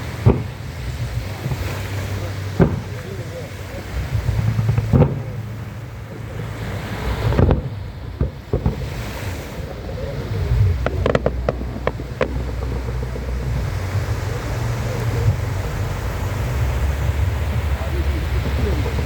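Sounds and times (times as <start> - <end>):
firework boom: 0.0 - 19.0
firework cracks: 0.0 - 19.0
surf: 0.0 - 19.0
wind rumble on microphone: 0.0 - 19.0.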